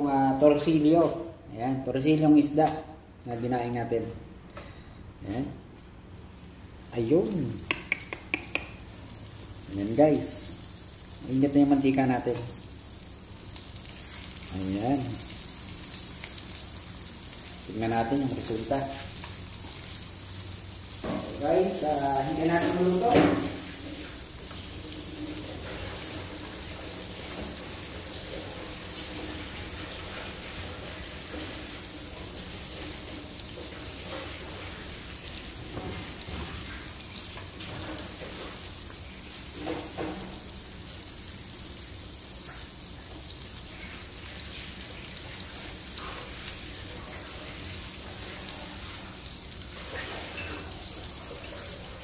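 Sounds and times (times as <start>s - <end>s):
fish deep-frying in oil: 6.8s - 52.0s.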